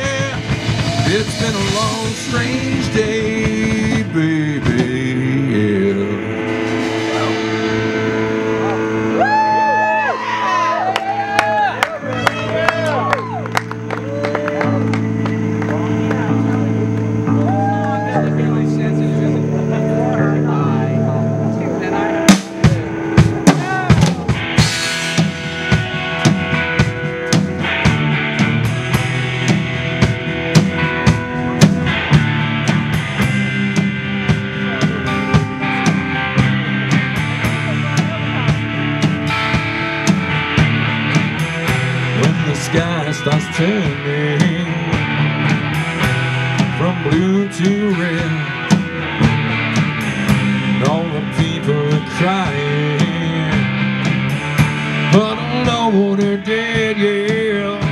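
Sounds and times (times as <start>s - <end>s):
bass guitar: 0.0s - 57.9s
drum kit: 0.0s - 57.9s
electric guitars: 0.0s - 57.9s.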